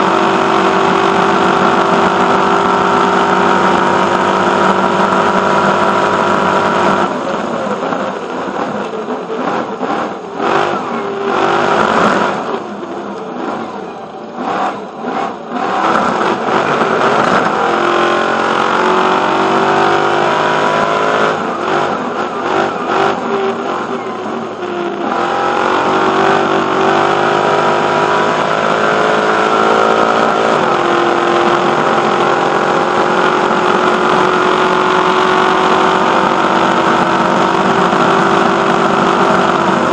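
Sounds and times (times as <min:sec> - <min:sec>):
racing truck engine revving: 0:00.0 - 0:39.9.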